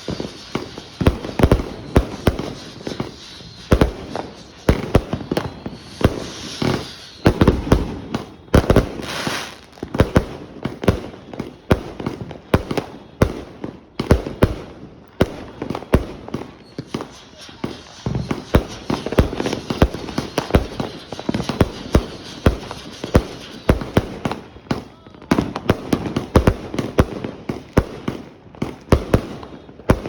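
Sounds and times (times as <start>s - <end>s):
firework bangs: 0.0s - 30.0s
firework hissing: 0.0s - 30.0s.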